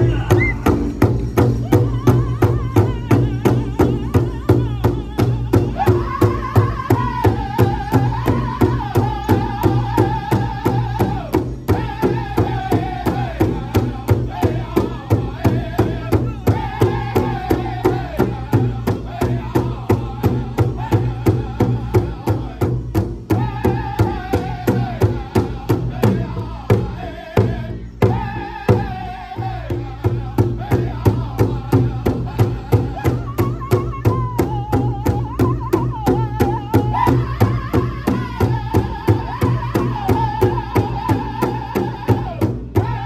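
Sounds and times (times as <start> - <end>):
group singing in high voices: 0.0 - 43.0
large drum steady beat: 0.0 - 43.0.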